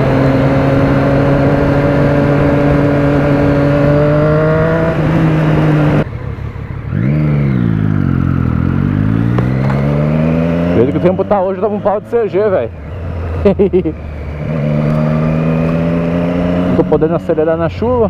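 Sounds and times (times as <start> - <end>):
motorcycle engine accelerating: 0.0 - 18.0
wind and road noise: 0.0 - 18.0.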